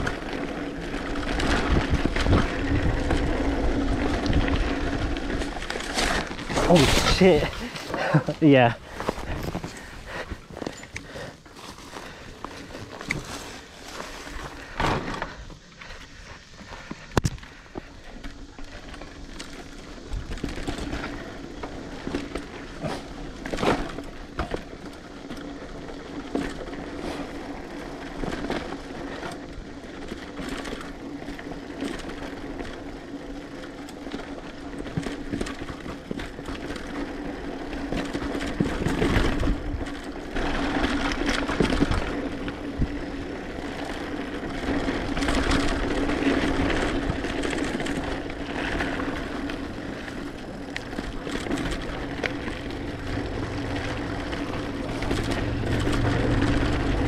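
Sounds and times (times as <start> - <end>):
bike knocking and rattling: 0.0 - 57.0
mountain bike humming on trail: 0.0 - 57.0.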